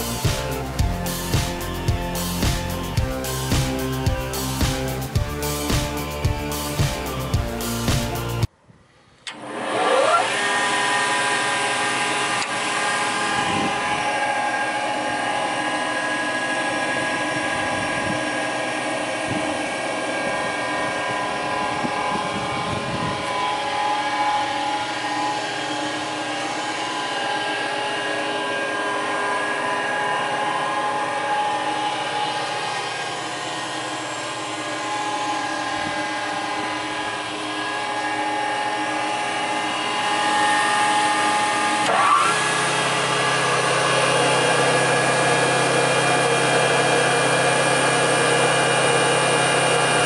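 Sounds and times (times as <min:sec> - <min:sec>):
spindle moulder motor whine: 0:00.0 - 0:08.5, 0:09.1 - 0:50.0.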